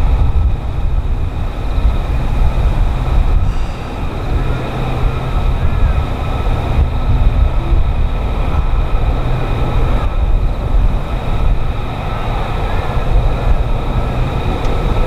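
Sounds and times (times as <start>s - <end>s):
jet engine rumble and whine: 0.0s - 15.0s.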